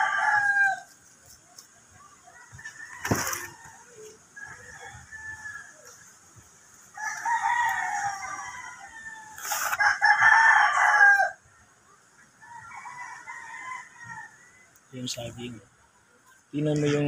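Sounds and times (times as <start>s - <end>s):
roosters crowing: 0.0s - 1.0s, 2.2s - 14.9s.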